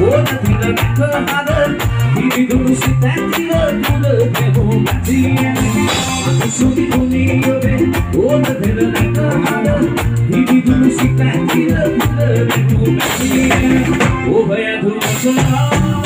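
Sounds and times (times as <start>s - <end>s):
bass guitar: 0.0s - 16.0s
drum kit beat: 0.0s - 16.0s
electric guitar: 0.0s - 16.0s.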